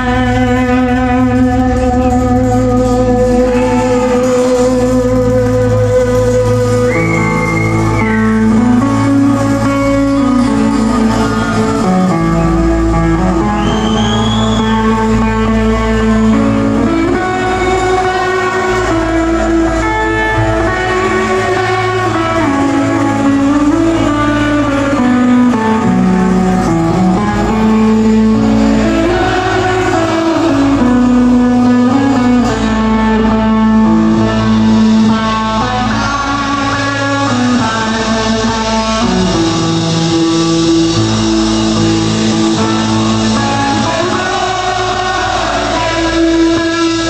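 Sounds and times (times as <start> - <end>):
bass guitar: 0.0 - 47.0
drums: 0.0 - 47.0
electric guitar melody: 0.0 - 47.0
rock band playing loudly: 0.0 - 47.0.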